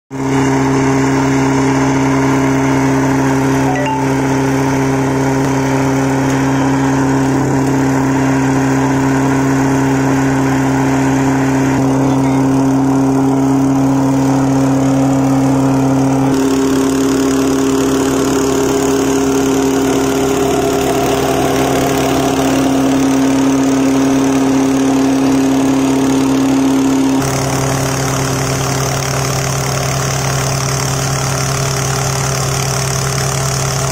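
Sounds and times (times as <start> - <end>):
small engine running steadily: 0.1 - 33.9.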